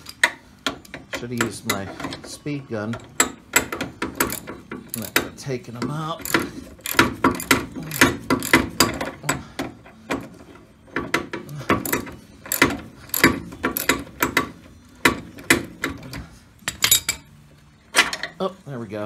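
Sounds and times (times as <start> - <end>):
hand ratchet clicking: 0.0 - 17.2.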